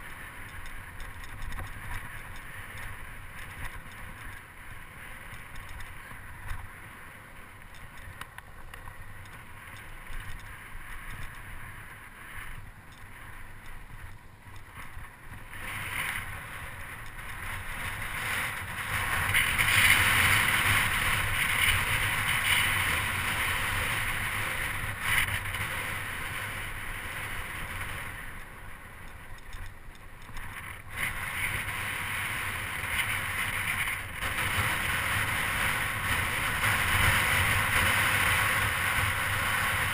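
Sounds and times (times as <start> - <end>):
tyres rumbling on rough asphalt: 0.0 - 39.9
wind rushing over microphone: 0.0 - 39.9.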